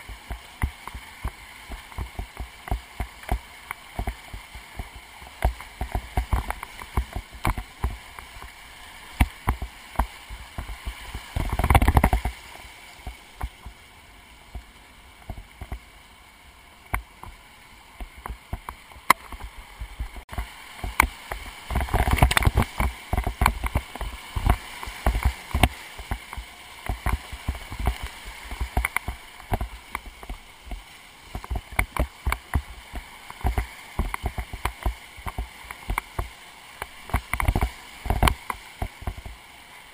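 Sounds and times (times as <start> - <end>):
rushing whitewater: 0.0 - 39.9
water splashing against boat: 0.0 - 39.9.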